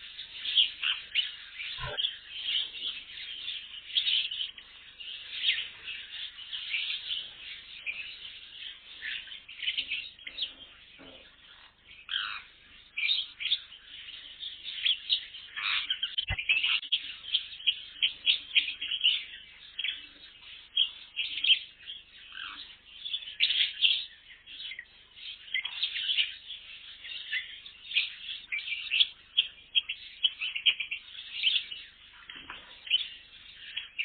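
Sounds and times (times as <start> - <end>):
cage birds chirping: 0.0 - 34.0.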